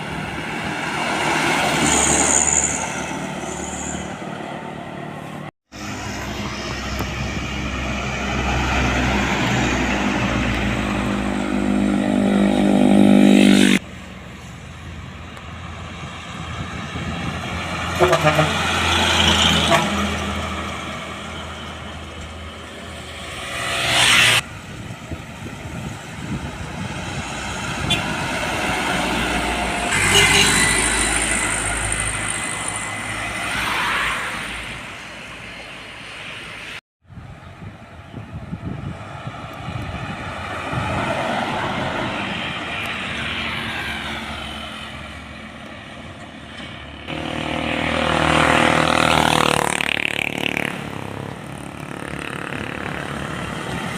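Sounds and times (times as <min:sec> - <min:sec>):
trucks and vehicles passing: 0:00.0 - 0:53.9.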